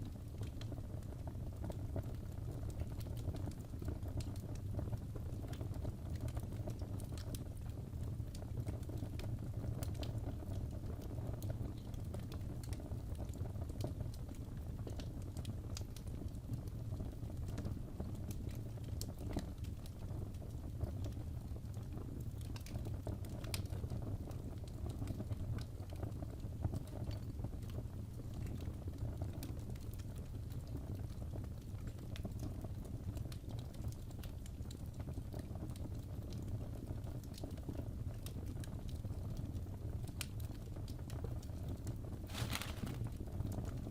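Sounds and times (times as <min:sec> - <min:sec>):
burning wood crackling and popping: 0:00.0 - 0:43.9
low rumble of flames: 0:00.0 - 0:43.9.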